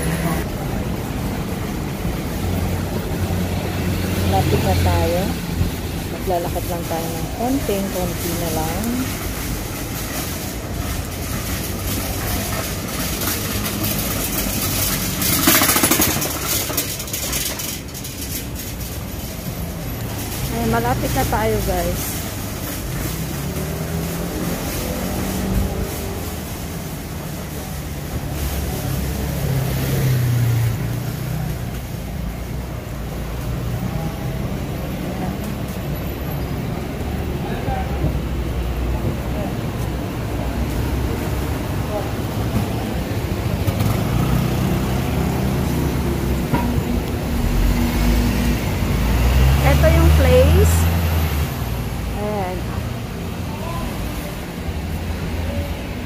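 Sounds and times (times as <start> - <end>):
busy street traffic: 0.0 - 56.0
city din: 0.0 - 56.0.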